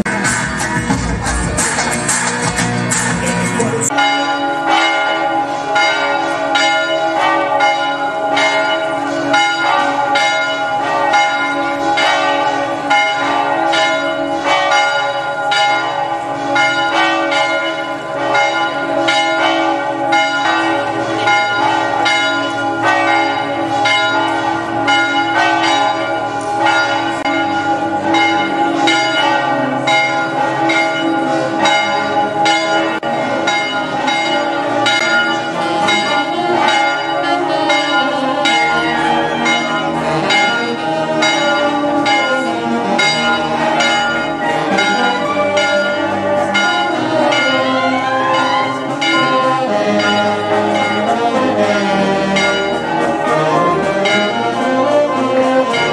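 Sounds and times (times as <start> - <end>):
church bells pealing: 0.0 - 1.4, 3.2 - 55.9.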